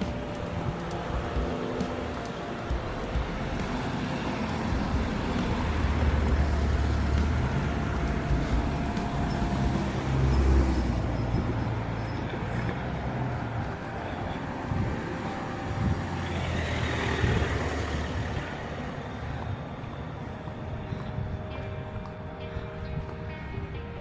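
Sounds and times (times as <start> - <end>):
road noise: 0.0 - 24.0
vehicle engine rumbling: 0.0 - 24.0.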